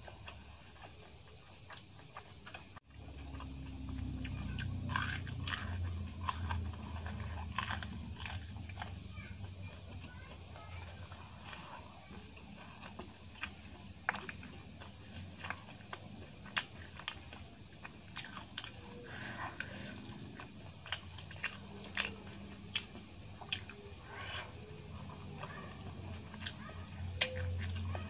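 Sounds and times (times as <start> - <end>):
bite into fried food: 0.0 - 28.0
wet chewing with mouth clicks: 0.0 - 28.0.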